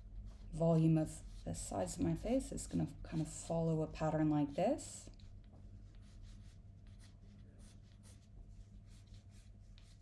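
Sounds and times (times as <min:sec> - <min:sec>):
pencil scratching on paper: 0:00.2 - 0:10.0.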